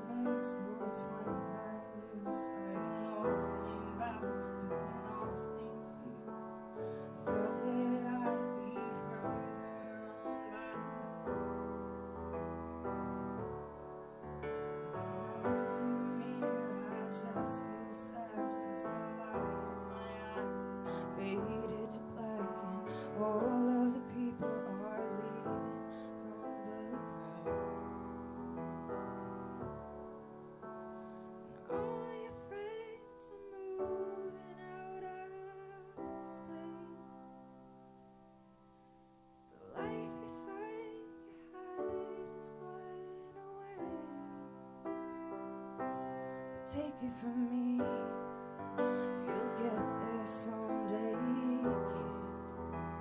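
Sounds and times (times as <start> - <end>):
woman singing: 0.0 - 11.6, 14.7 - 29.2, 31.5 - 37.4, 39.6 - 52.6
grand piano ballad chords: 0.0 - 53.0.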